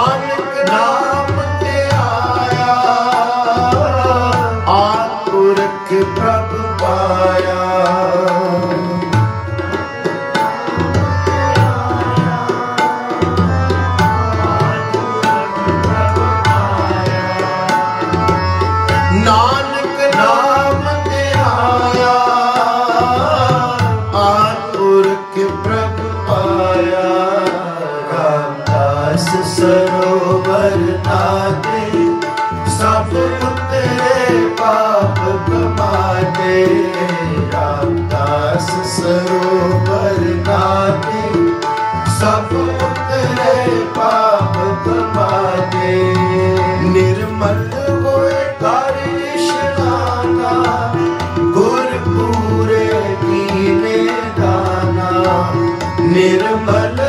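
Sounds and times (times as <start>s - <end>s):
harmonium chords: 0.0s - 57.0s
man singing: 0.0s - 57.0s
tabla playing rhythm: 0.0s - 57.0s.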